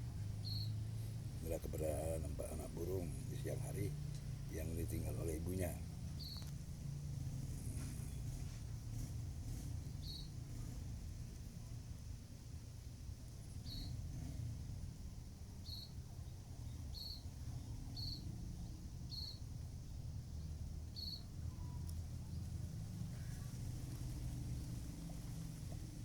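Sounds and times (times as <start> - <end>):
low steady rumble: 0.0 - 26.0.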